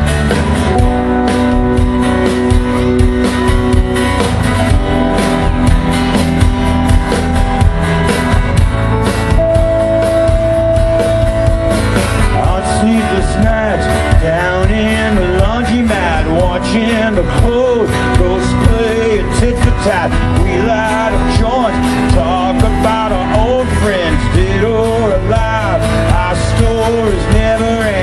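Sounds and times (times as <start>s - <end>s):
electric guitars: 0.0s - 28.0s
steady drum beat: 0.0s - 28.0s.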